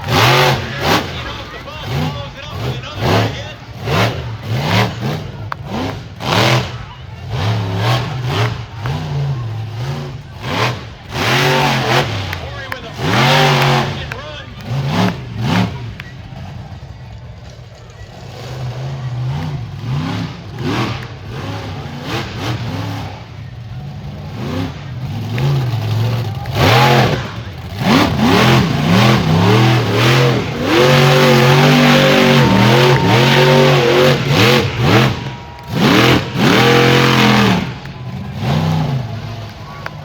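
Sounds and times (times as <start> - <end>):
truck engine revving hard: 0.0 - 40.0.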